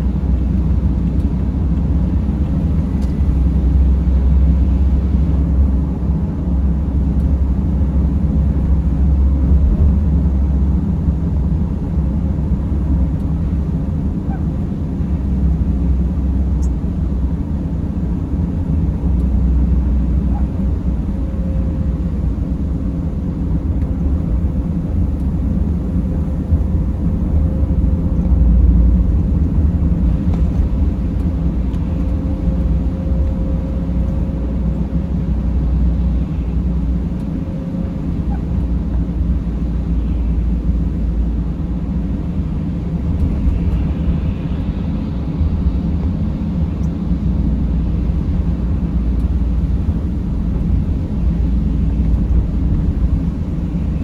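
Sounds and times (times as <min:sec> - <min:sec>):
van engine and road rumble: 0:00.0 - 0:54.0
faint steady hum: 0:02.2 - 0:54.0.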